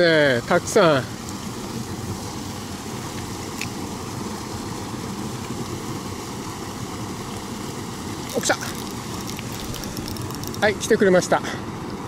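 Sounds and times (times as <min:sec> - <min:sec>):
water pouring over weir: 0:00.8 - 0:11.0.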